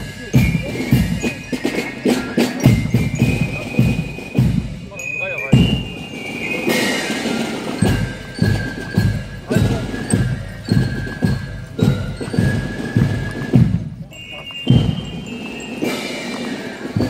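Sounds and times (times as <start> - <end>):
bass drum marching beat: 0.0 - 4.9, 5.5 - 17.0
marching band music: 0.0 - 17.0.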